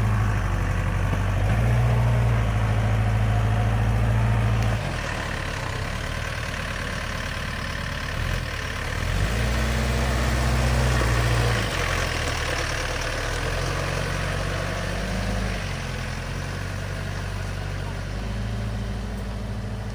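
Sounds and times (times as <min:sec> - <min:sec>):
tractor engine idling and revving: 0:00.0 - 0:19.9.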